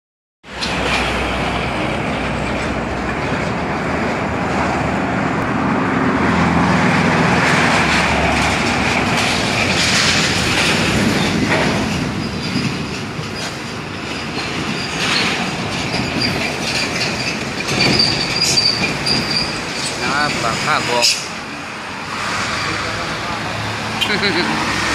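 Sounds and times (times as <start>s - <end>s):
heavy trucks driving past: 0.5s - 24.9s.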